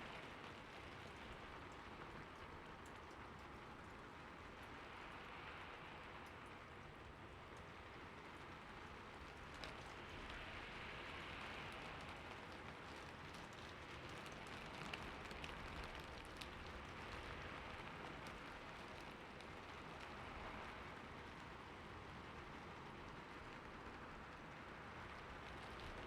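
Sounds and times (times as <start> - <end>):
light raindrop ticks: 0.0 - 26.0
soft steady rain: 0.0 - 26.0.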